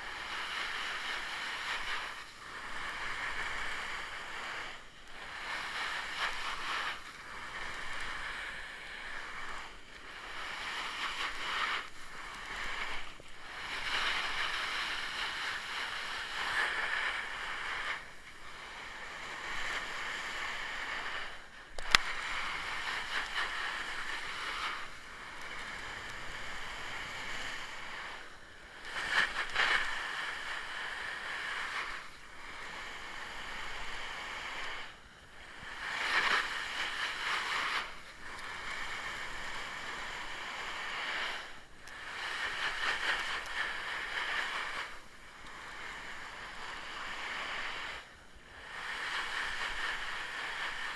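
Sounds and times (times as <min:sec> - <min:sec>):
edges scraping over snow: 0:00.0 - 0:48.1, 0:48.7 - 0:50.9.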